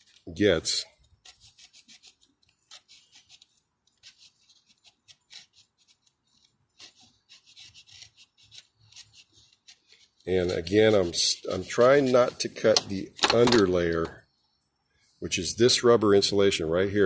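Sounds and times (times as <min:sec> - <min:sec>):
craft knife scratching insulation: 0:00.0 - 0:14.0.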